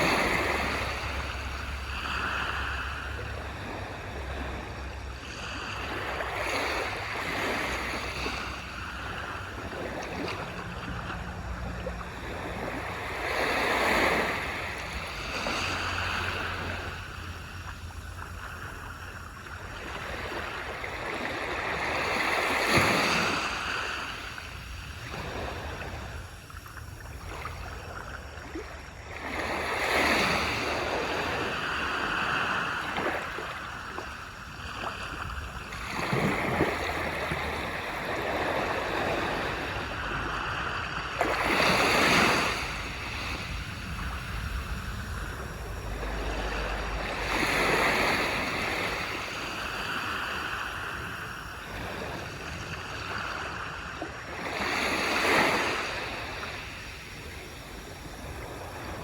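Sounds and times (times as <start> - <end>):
ocean surf breaking on beach: 0.0 - 28.1, 28.8 - 59.0.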